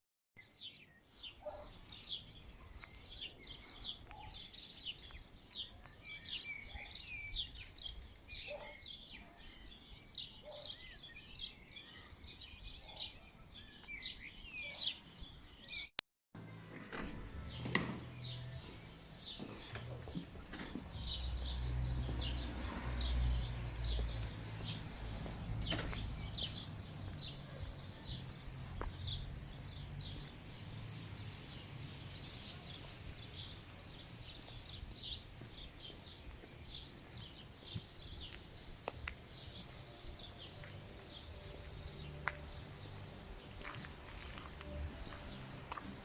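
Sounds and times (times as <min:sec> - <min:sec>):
small birds chirping: 0:00.4 - 0:15.9, 0:17.5 - 0:46.0.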